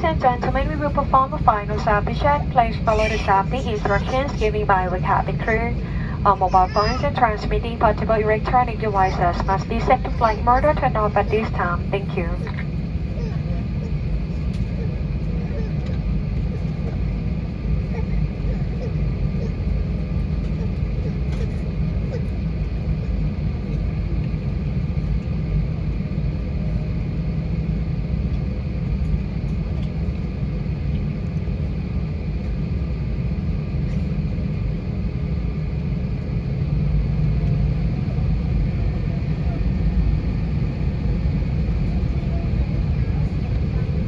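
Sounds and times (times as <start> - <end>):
airplane cabin rumble: 0.0 - 44.0
faint jet engine whine: 0.0 - 44.0.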